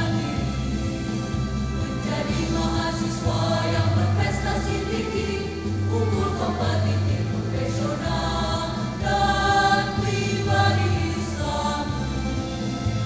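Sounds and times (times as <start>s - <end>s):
choir singing in harmony: 0.0s - 13.0s.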